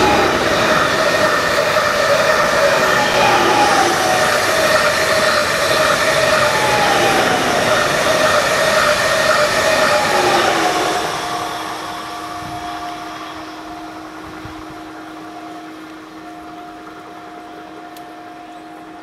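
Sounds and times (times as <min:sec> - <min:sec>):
train rolling away: 0:00.0 - 0:19.0
two-note whine: 0:00.0 - 0:19.0.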